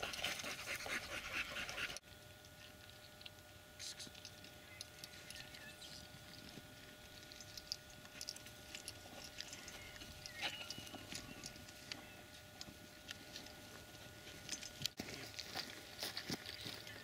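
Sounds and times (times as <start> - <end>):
faint steady hum: 0.0 - 17.0
light ticks and rustles: 0.0 - 17.0.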